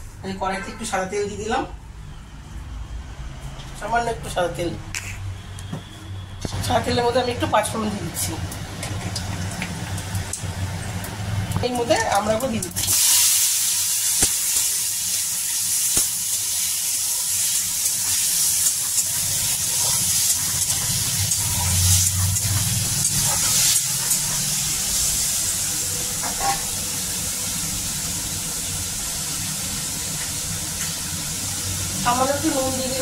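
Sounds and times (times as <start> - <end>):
fruit sizzling in hot oil: 6.5 - 33.0.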